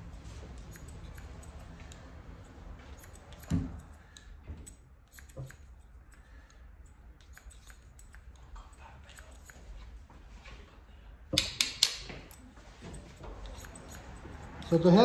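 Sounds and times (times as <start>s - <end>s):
scissors snipping hair: 0.4s - 9.8s, 11.4s - 14.9s.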